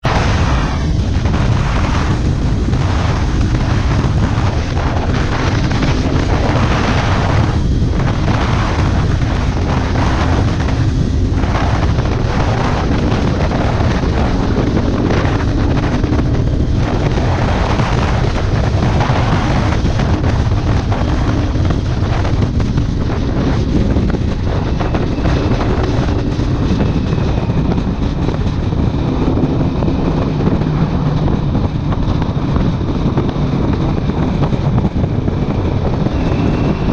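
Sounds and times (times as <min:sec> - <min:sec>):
motorcycle engine running: 0:00.0 - 0:36.9
wind buffeting on microphone: 0:00.0 - 0:36.9.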